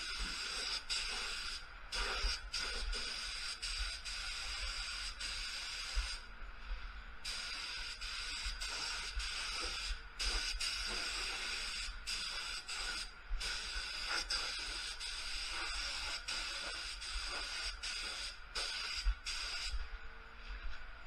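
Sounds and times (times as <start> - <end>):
spray gun hissing: 0.0 - 6.2, 7.2 - 19.8.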